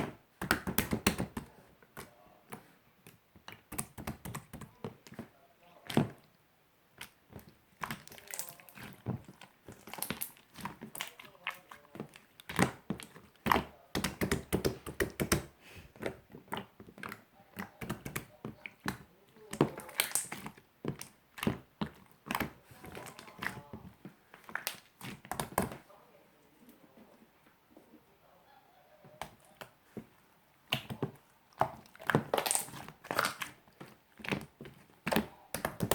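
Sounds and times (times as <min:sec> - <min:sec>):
hands squishing slime: 0:00.0 - 0:25.9, 0:29.0 - 0:35.9.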